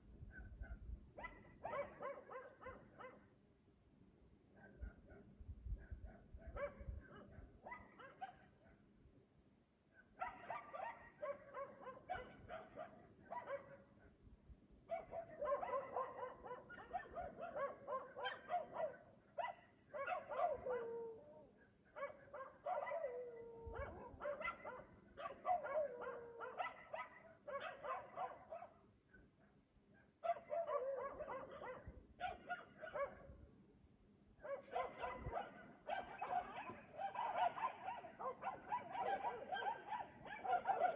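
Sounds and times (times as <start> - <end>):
dog barking: 0.2 - 3.3, 4.6 - 8.9, 10.0 - 14.2, 14.9 - 33.4, 34.4 - 40.9.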